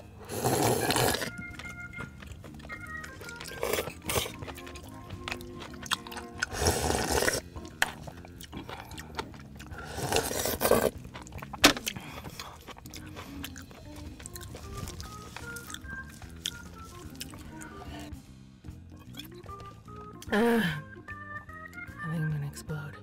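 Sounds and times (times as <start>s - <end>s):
close eating noises: 0.0s - 18.2s, 18.9s - 20.3s
background music: 0.0s - 23.0s.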